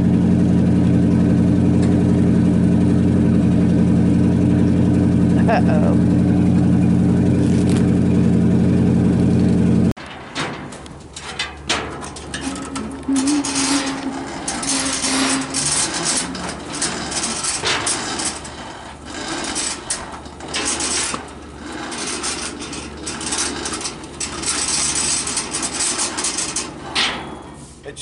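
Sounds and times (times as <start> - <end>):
electric winch whirring: 0.0 - 9.9, 10.5 - 27.8
steady low hum: 0.0 - 28.0.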